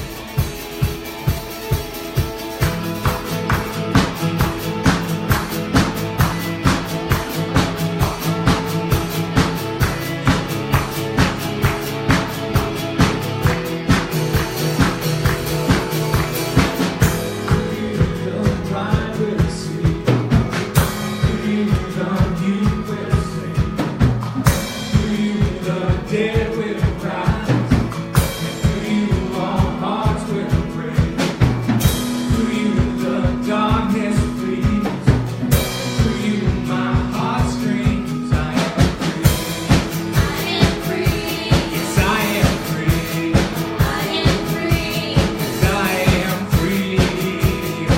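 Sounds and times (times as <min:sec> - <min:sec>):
live band playing upbeat song: 0:00.0 - 0:47.9
person singing: 0:03.1 - 0:47.9.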